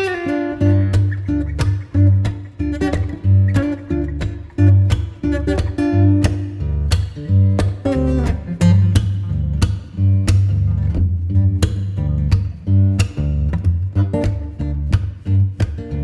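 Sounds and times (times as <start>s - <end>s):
plucked and strummed guitar: 0.0s - 16.0s
steady bass line: 0.4s - 16.0s.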